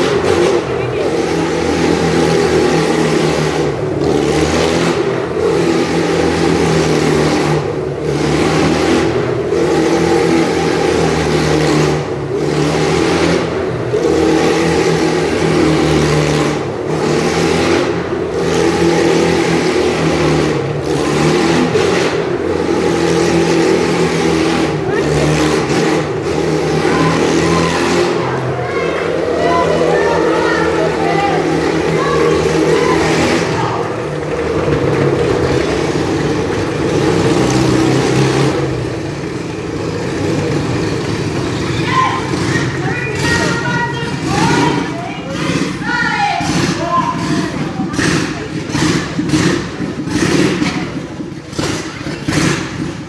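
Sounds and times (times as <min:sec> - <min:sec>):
small kart engine running: 0:00.0 - 0:53.0.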